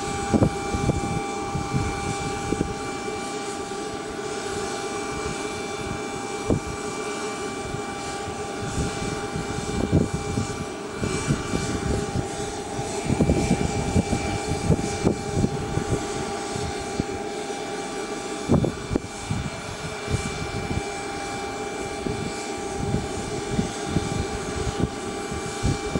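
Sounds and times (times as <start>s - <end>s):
wind rumble on microphone: 0.0s - 17.3s, 18.3s - 25.9s
jet turbine whine: 0.0s - 25.9s.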